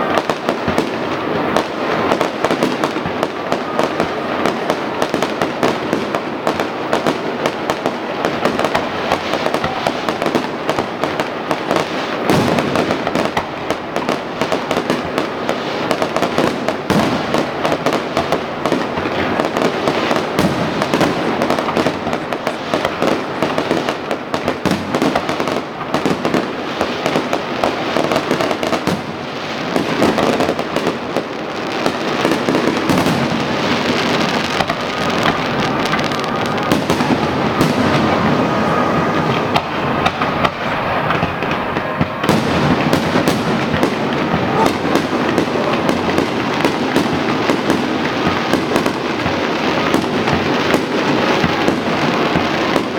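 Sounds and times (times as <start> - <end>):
fireworks bangs and crackling: 0.0 - 52.9
heavy firework bangs: 0.0 - 52.9.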